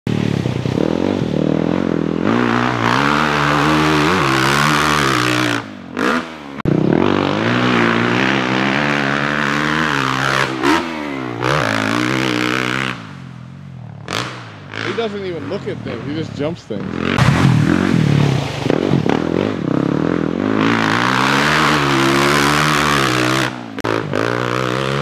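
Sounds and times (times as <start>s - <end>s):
dirt bike engine revving: 0.1s - 25.0s.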